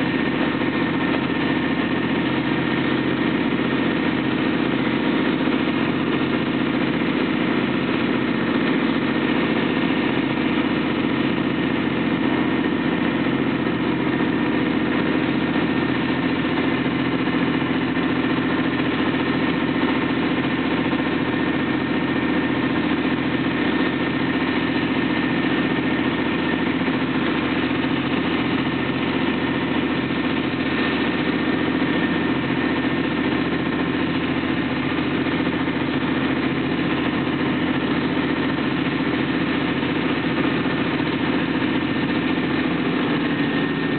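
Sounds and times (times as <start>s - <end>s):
large vehicle engine droning: 0.0s - 43.9s.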